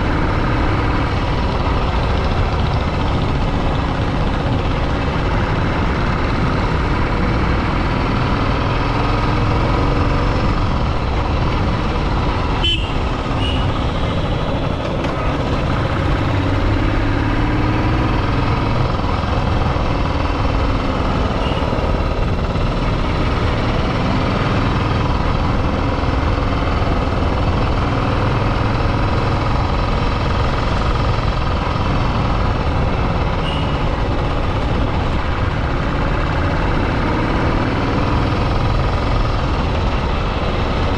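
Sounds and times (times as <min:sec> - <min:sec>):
motorcycle running: 0:00.0 - 0:40.9
wind and road noise: 0:00.0 - 0:40.9.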